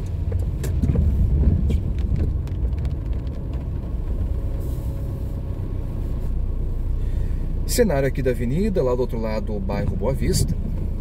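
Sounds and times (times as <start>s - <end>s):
car driving on wet road: 0.0s - 11.0s.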